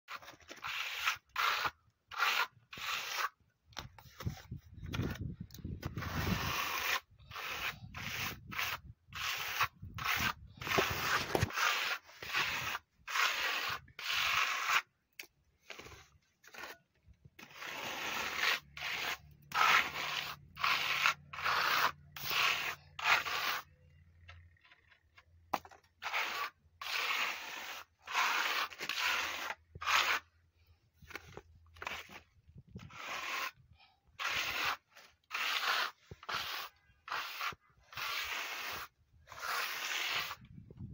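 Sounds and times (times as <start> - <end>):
trowel scraping wall coating: 0.1 - 40.9.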